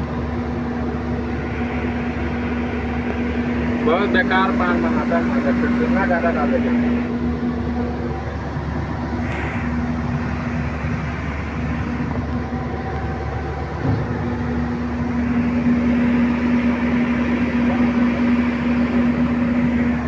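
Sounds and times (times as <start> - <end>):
heavy diesel engine humming: 0.0 - 20.0.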